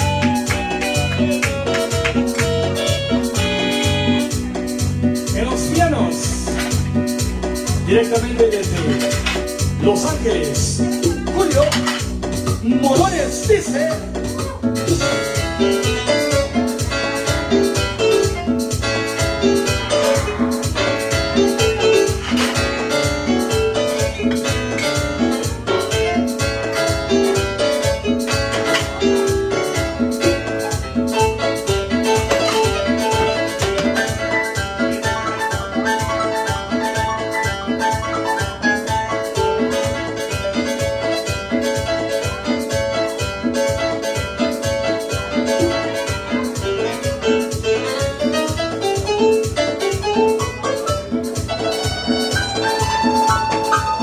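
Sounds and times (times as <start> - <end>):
drum kit beat: 0.0 - 54.0
electronic keyboard melody: 0.0 - 54.0.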